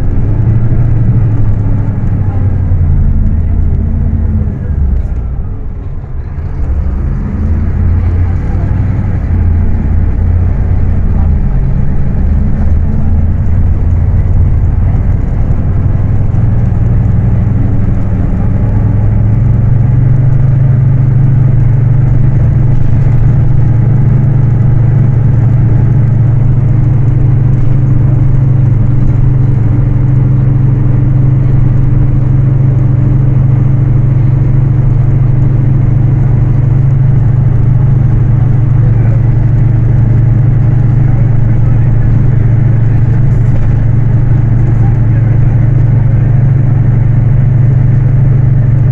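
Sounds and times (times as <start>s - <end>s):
bus diesel engine: 0.0s - 48.9s.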